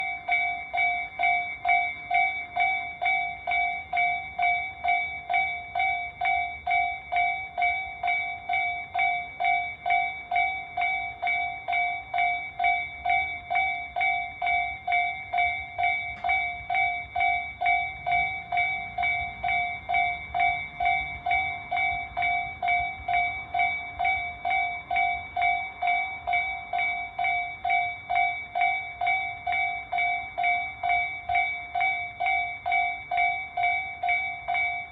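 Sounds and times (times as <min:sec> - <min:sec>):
electronic crossing bell dinging: 0:00.0 - 0:34.9.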